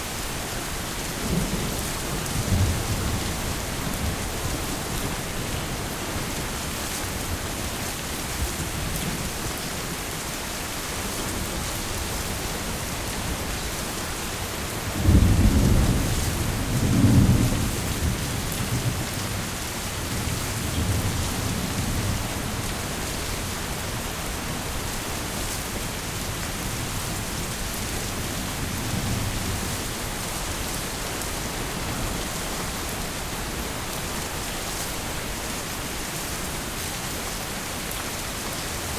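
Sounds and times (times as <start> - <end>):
heavy rain falling: 0.0 - 38.9
thunder rumbling: 0.6 - 37.2.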